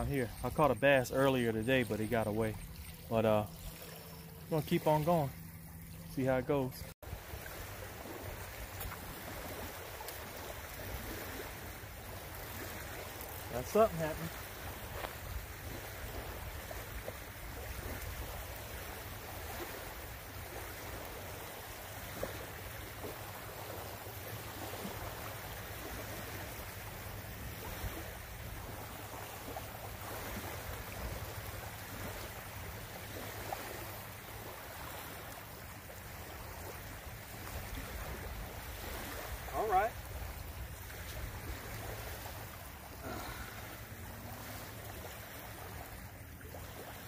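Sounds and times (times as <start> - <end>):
small waves lapping on shore: 0.0 - 47.0.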